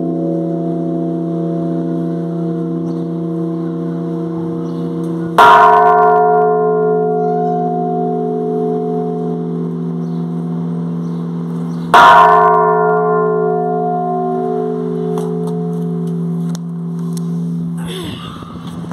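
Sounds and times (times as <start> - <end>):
large church bell ringing: 0.0 - 18.7.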